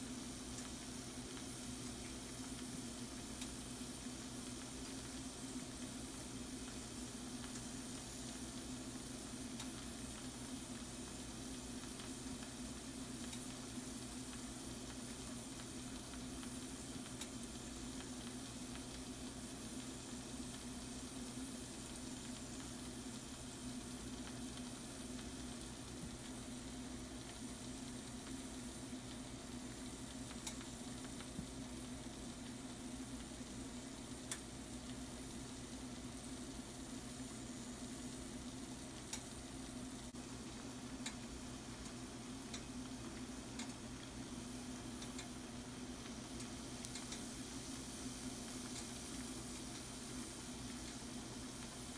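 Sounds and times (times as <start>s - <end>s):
food sizzling in a skillet: 0.0s - 51.9s.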